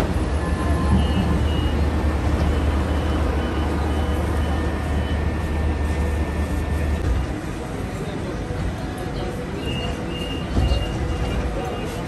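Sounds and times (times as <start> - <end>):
street traffic: 0.0 - 12.0
tram rumble: 0.0 - 12.0.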